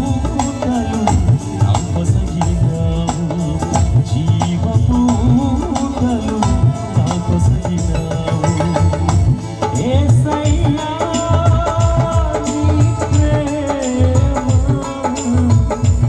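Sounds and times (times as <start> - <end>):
hand drum beat: 0.0 - 16.0
keyboard chords: 0.0 - 16.0.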